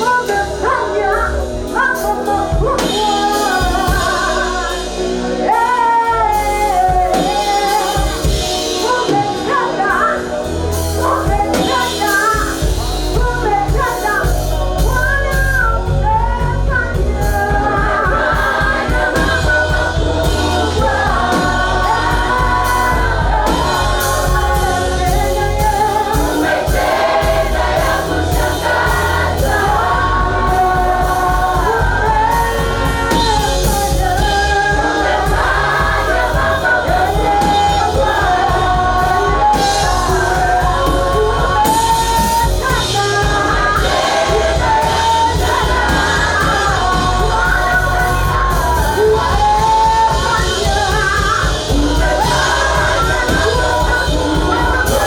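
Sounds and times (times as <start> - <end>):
group singing gospel: 0.0 - 55.0
live band with drums and bass: 0.0 - 55.0.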